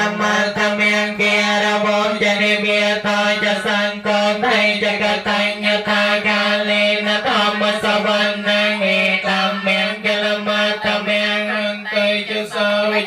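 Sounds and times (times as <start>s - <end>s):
monks chanting into microphone: 0.0s - 13.0s.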